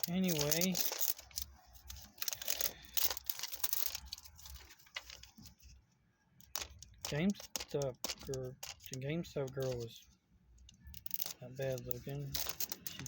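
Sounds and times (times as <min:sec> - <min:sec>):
toy packaging crinkling: 0:00.0 - 0:05.7, 0:06.4 - 0:09.9, 0:10.8 - 0:13.0.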